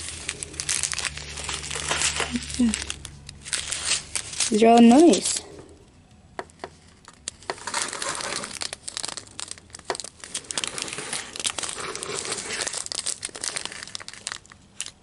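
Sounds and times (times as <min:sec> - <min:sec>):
plastic bags crinkling: 0:00.0 - 0:05.8, 0:06.5 - 0:15.0.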